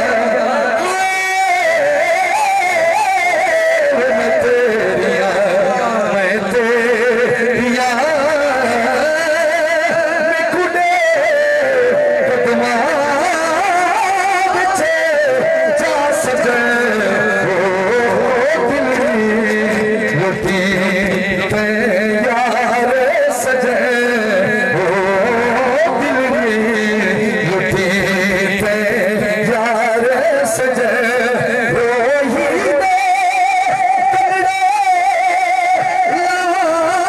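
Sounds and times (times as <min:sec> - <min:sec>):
man singing over loudspeaker: 0:00.0 - 0:37.0.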